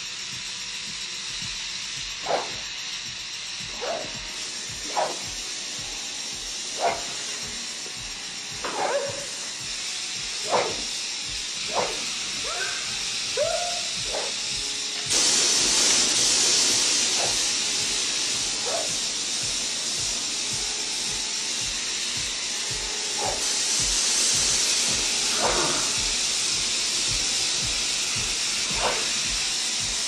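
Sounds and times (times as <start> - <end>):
gas rushing from cylinders: 0.0 - 30.0.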